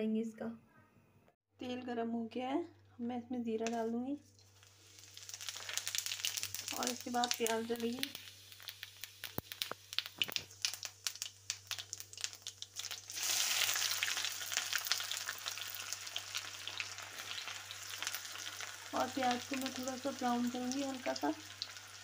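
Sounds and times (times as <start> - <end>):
onion sizzling in oil: 3.6 - 22.0
seeds crackling in hot oil: 3.6 - 22.0.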